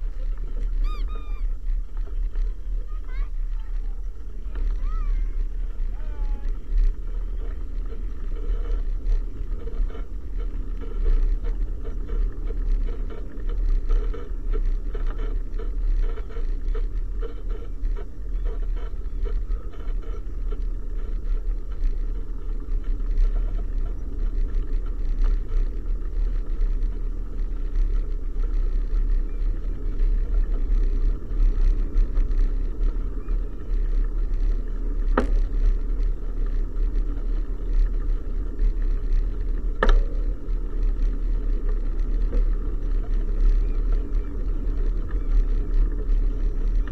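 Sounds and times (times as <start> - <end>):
road rumble: 0.0 - 46.9
small rattles: 0.0 - 46.9.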